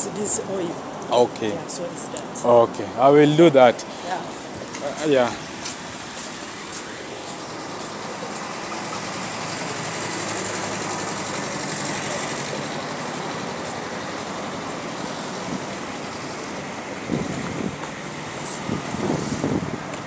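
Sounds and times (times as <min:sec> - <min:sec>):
hiss of passing traffic: 0:00.0 - 0:20.0.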